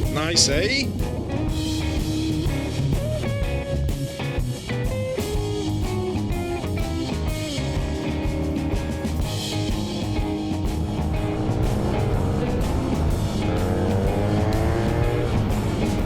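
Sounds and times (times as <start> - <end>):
guitar-led rock music with drums: 0.0 - 16.0.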